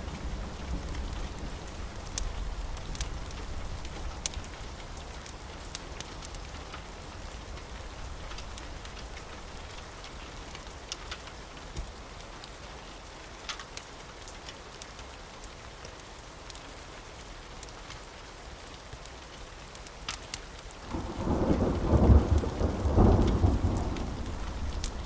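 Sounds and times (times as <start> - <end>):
steady rain falling: 0.0 - 25.0
sharp drip-like clicks: 2.0 - 12.5, 13.4 - 18.1, 18.9 - 25.0.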